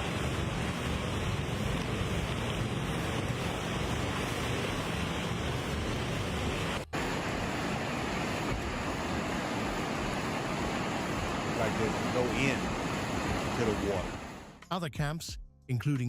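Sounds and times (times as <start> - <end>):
floodwater rushing: 0.0 - 14.6.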